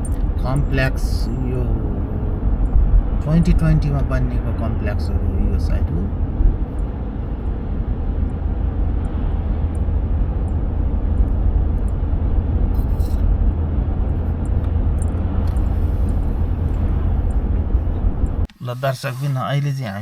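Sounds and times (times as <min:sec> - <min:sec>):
car driving on road: 0:00.0 - 0:18.5.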